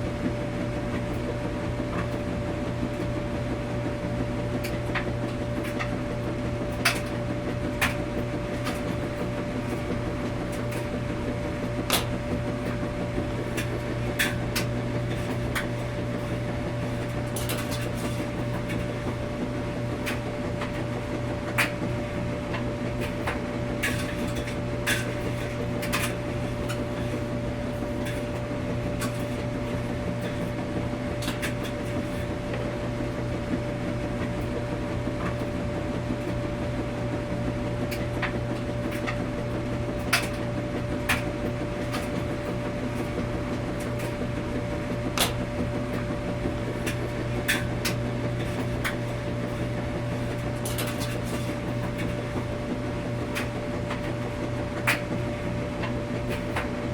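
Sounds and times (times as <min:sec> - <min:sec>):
washing machine humming: 0:00.0 - 0:56.9.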